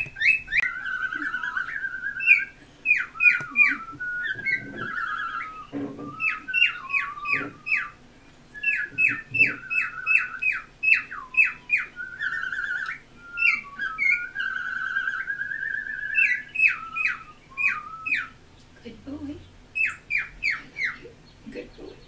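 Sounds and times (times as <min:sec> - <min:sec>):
cockatiel whistling: 0:00.0 - 0:18.4, 0:19.8 - 0:21.1.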